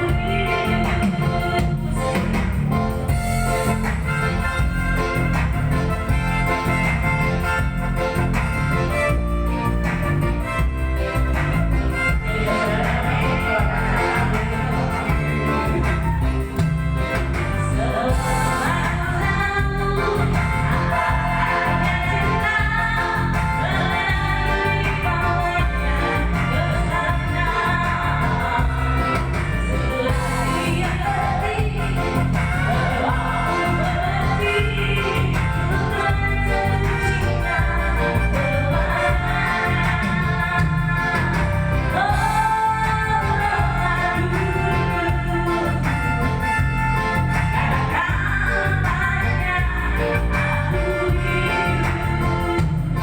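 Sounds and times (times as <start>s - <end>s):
woman singing: 0.0s - 9.2s, 9.8s - 53.0s
instrumental accompaniment: 0.0s - 53.0s.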